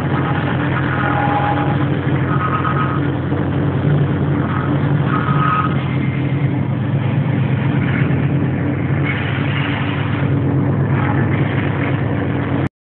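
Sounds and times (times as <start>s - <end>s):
diesel locomotive engine humming: 0.0s - 12.7s
train rolling on track: 0.0s - 12.7s.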